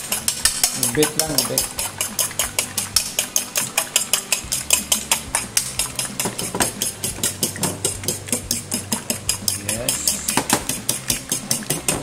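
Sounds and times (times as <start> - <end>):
fork beating eggs in bowl: 0.0 - 12.0.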